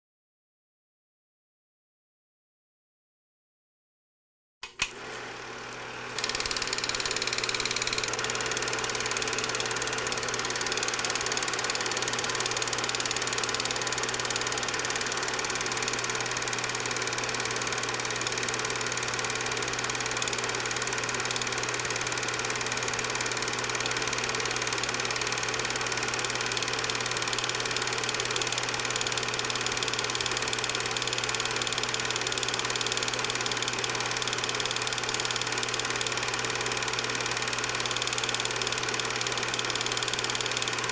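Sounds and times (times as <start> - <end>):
movie projector whirring: 4.6 - 40.9.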